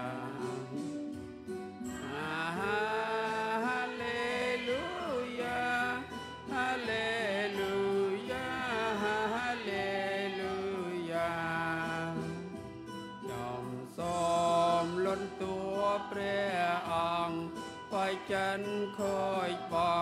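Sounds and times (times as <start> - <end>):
choir singing a hymn: 0.0 - 1.0, 1.8 - 12.6, 13.3 - 20.0.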